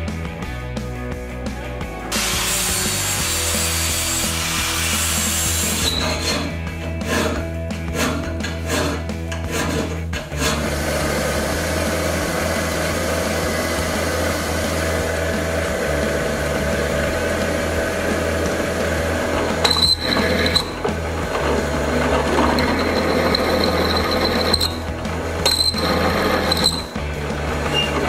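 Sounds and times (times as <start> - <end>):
drill press drilling metal: 2.1 - 28.0.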